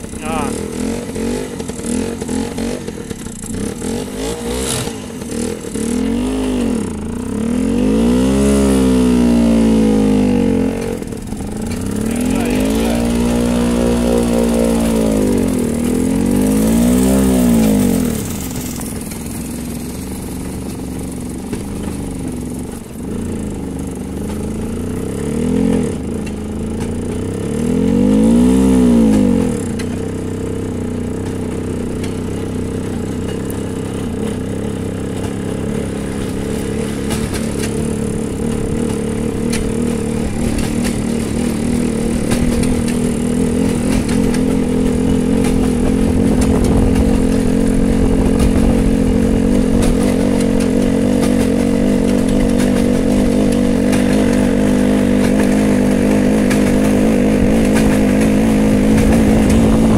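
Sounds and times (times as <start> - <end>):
rail trolley engine revving: 0.0 - 59.9.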